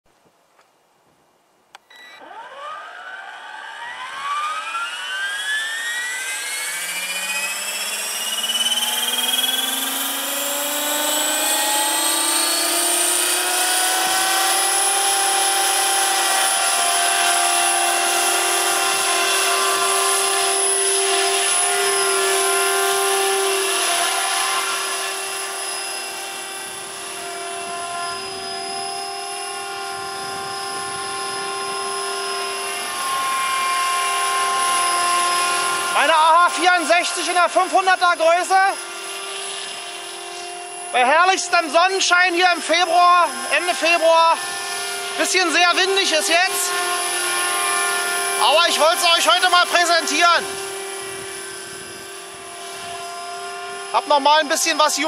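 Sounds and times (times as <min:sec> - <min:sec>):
rotor whir: 0:01.7 - 0:55.0
model helicopter motor whine: 0:02.0 - 0:55.0.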